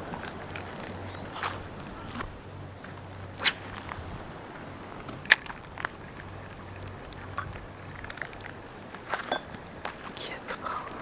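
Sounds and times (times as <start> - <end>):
faint high-pitched whine: 0.0 - 11.0
outdoor background hiss: 0.0 - 11.0.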